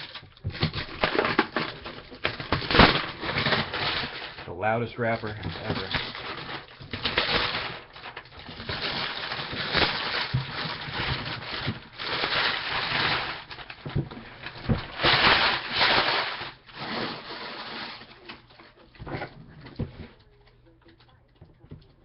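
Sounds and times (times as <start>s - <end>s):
plastic wrapper crinkling: 0.0s - 19.1s.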